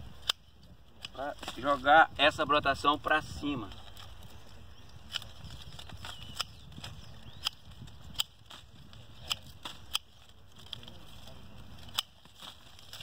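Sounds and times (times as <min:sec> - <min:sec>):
branches snapping off: 0:00.1 - 0:01.9, 0:03.6 - 0:13.0.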